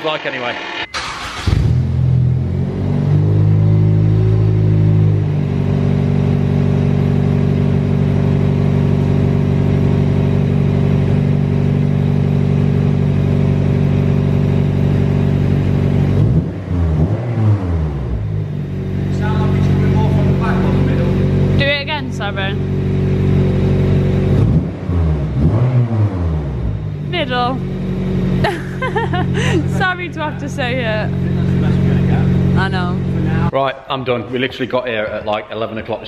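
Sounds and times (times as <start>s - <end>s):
car engine starting and idling: 0.0s - 33.5s.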